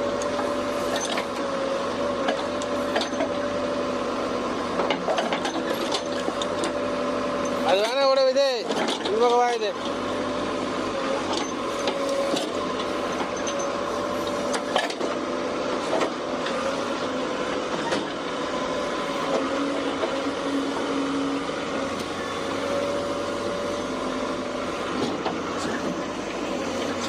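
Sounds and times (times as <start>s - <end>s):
heavy machine engine running: 0.0s - 27.0s.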